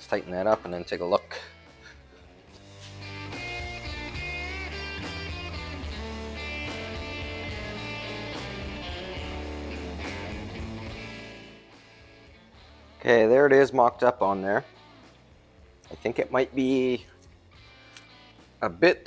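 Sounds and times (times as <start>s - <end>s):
bass line: 0.0s - 18.8s
surf electric guitar instrumental: 0.0s - 19.0s.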